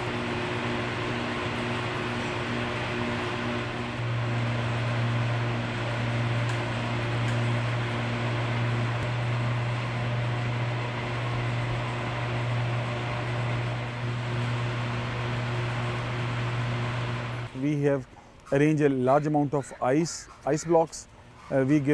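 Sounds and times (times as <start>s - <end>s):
low motor hum: 0.0s - 17.7s
fans whirring air: 0.0s - 21.9s.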